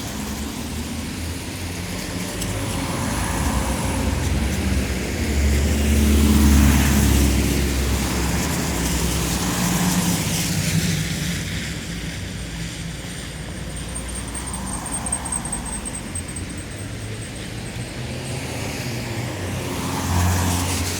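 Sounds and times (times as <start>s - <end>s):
tyres hissing on wet road: 0.0s - 20.9s.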